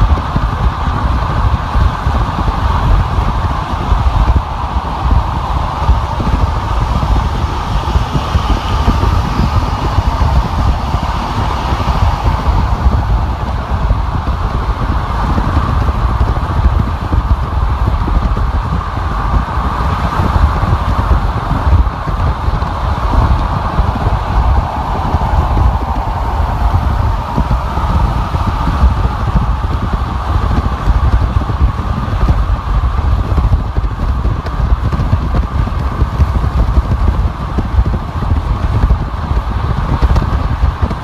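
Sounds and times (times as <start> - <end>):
car driving on a freeway: 0.0 - 41.0.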